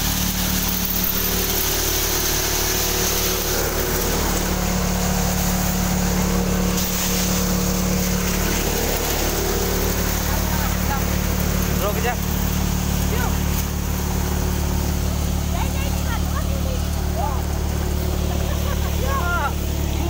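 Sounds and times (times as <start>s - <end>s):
thresher engine drone: 0.0s - 20.0s.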